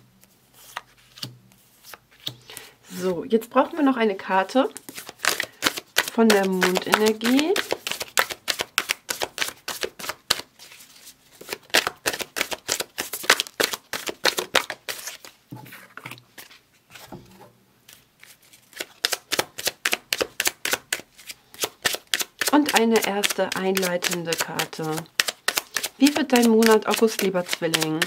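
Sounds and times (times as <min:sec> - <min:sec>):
cards being shuffled: 0:00.2 - 0:02.7, 0:04.8 - 0:15.4, 0:17.9 - 0:28.0.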